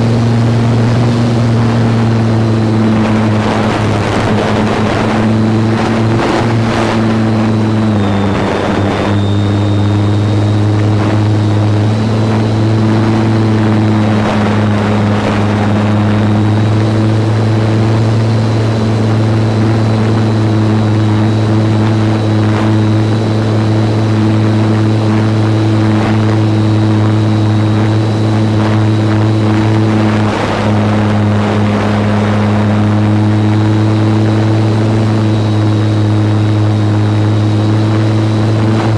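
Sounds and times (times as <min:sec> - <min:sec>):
electric motor and propeller humming: 0:00.0 - 0:38.9
wind rushing over microphone: 0:00.0 - 0:38.9.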